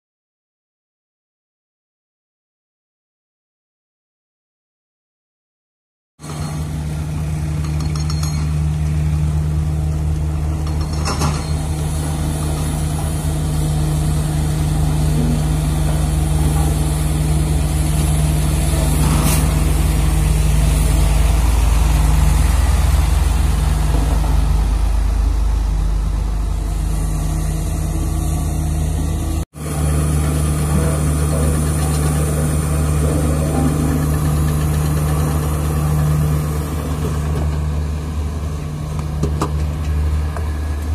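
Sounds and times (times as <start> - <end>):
heavy diesel engines running: 6.2 - 40.9.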